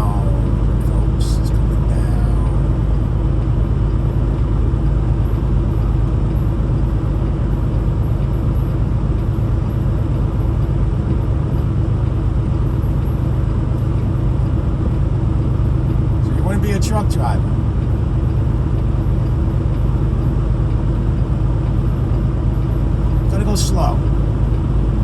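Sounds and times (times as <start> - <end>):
truck diesel engine drone: 0.0 - 25.0.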